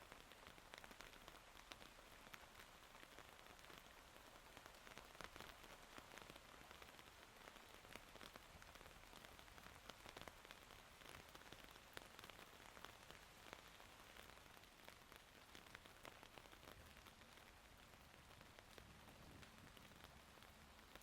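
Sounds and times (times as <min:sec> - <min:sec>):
raindrops ticking on hard surfaces: 0:00.0 - 0:21.0.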